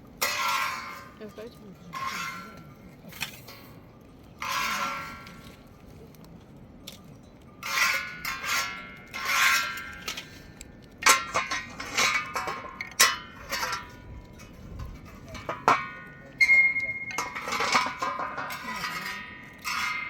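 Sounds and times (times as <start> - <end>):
metal objects clinking and clanging: 0.0 - 20.0.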